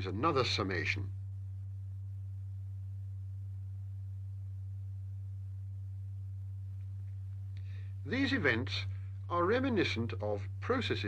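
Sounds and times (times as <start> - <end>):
steady low pure tone: 0.0 - 11.0.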